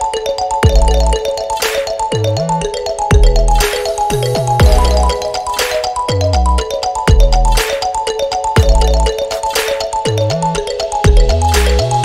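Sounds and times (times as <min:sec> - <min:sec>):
bright mallet-like melody: 0:00.0 - 0:12.0.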